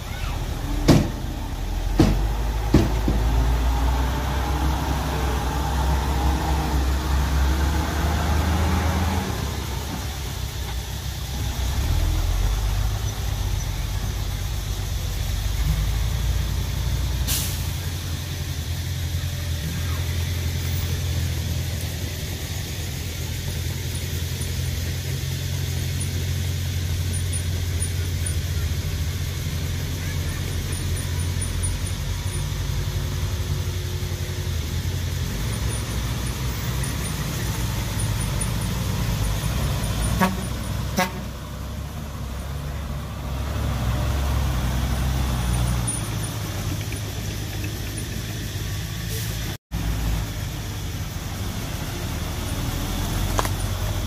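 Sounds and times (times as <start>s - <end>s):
diesel engines rumbling: 0.0s - 54.0s.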